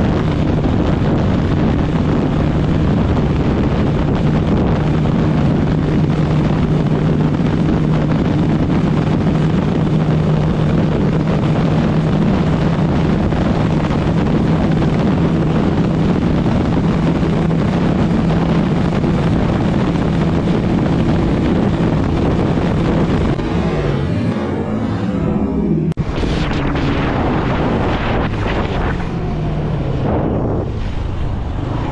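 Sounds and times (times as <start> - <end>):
wind noise on microphone: 0.0 - 31.9.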